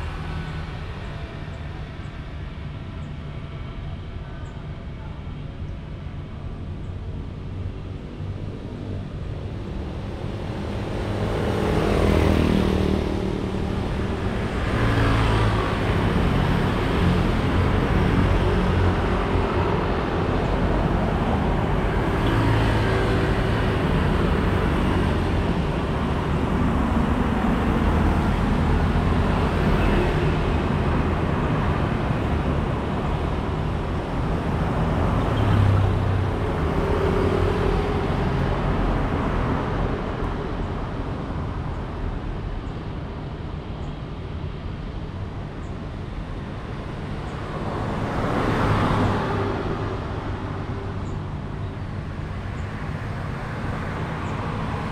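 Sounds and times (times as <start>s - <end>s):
motorbikes and cars passing: 0.0s - 4.2s, 4.8s - 54.9s.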